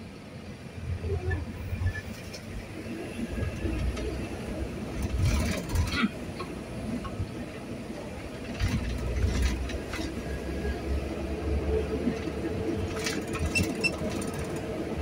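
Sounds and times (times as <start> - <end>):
vehicle rumbling on wet road: 0.0 - 15.0.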